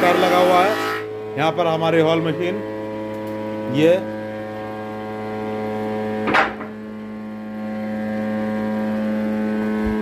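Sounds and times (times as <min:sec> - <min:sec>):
workshop machinery hum: 0:00.0 - 0:10.0.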